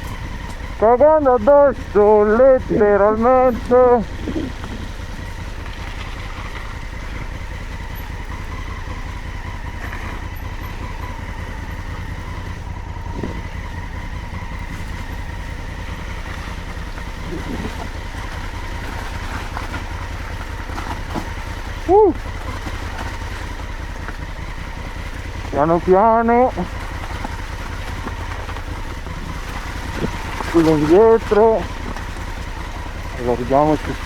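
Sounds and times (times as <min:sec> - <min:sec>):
motorcycle engine rumbling: 0:00.0 - 0:34.0.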